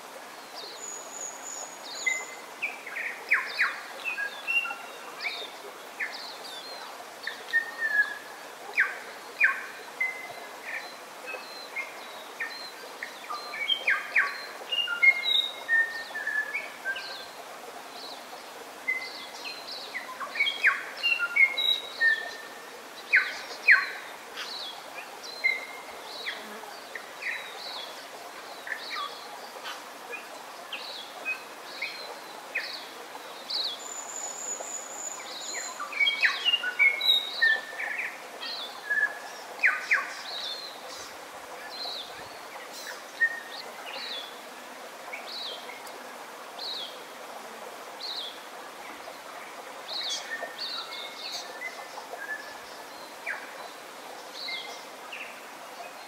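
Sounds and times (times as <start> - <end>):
soft background hiss: 0.0 - 56.0
forest birds singing and calling: 0.4 - 56.0.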